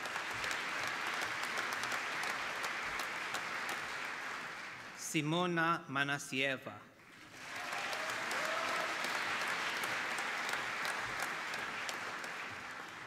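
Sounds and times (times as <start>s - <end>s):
audience applauding: 0.0s - 5.1s, 7.0s - 13.0s.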